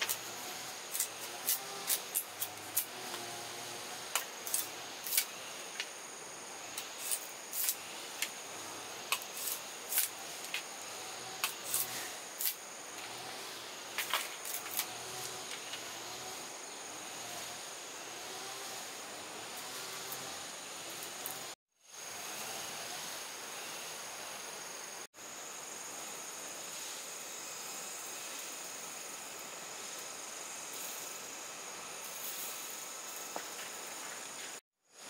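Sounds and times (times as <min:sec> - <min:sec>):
steady high hiss: 0:00.0 - 0:35.0.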